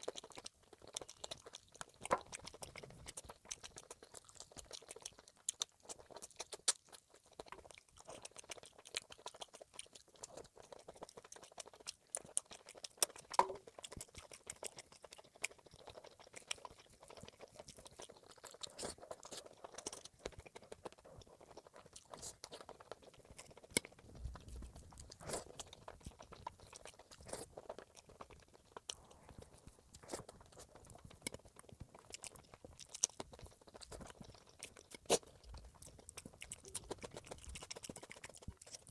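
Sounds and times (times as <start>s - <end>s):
chewing and crunching food: 0.0s - 38.9s
wet mouth clicks: 0.0s - 38.9s.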